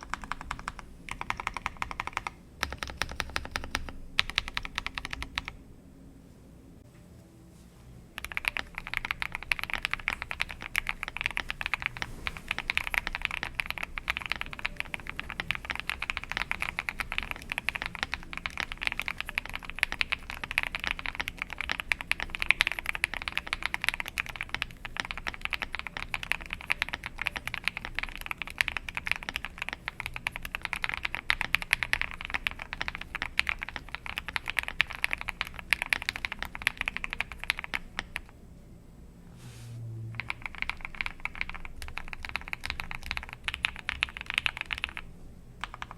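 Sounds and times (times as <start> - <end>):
mechanical keyboard typing: 0.0 - 5.6, 8.2 - 38.3, 40.2 - 45.9.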